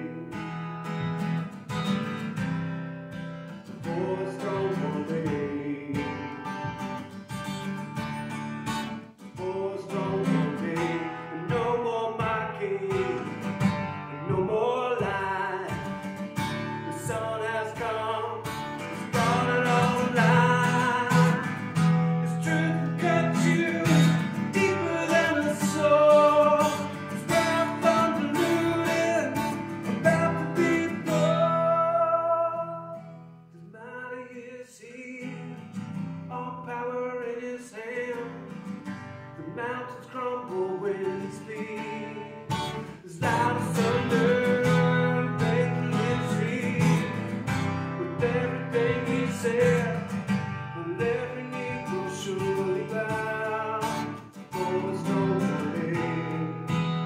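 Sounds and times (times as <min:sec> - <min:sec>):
man singing: 0:00.0 - 0:01.4, 0:03.7 - 0:07.1, 0:09.2 - 0:38.7, 0:39.4 - 0:57.0
acoustic guitar strumming: 0:00.0 - 0:57.0.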